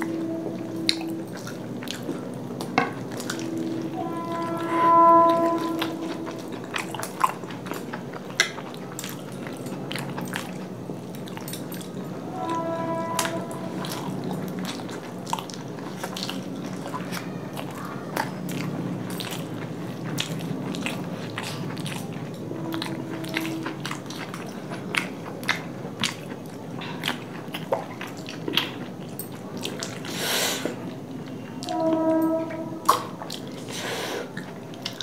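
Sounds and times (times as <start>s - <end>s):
wet chewing: 0.0s - 30.2s, 32.9s - 35.0s.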